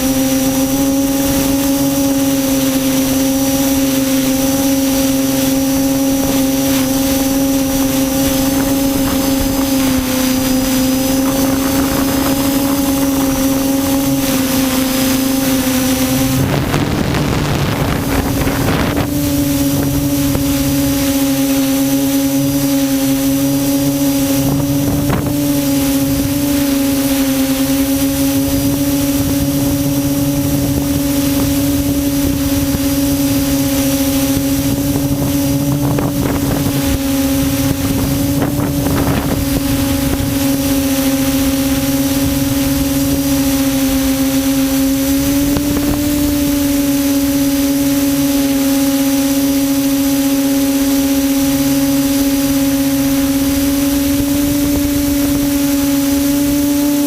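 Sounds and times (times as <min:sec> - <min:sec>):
drone motors humming: 0:00.0 - 0:57.0
wind noise on microphone: 0:00.0 - 0:57.0.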